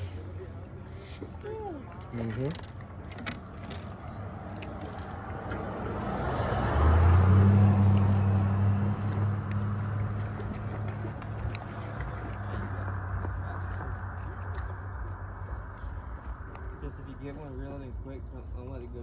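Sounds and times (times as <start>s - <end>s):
engine passing by: 2.2s - 18.0s.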